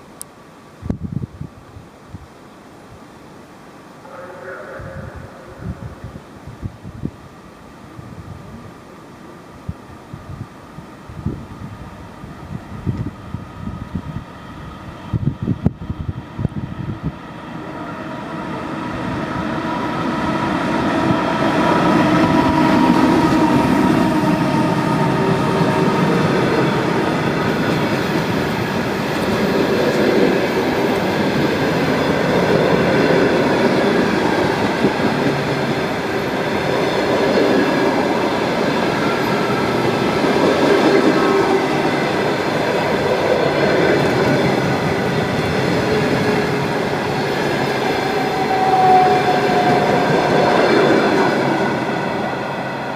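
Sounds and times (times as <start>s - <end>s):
train passing: 4.0s - 6.3s, 8.7s - 52.9s.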